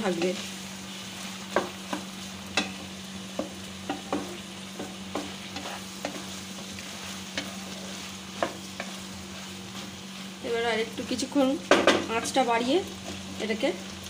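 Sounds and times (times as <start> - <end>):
spatula scraping a wok: 0.0 - 13.8
food sizzling in oil: 0.0 - 14.0.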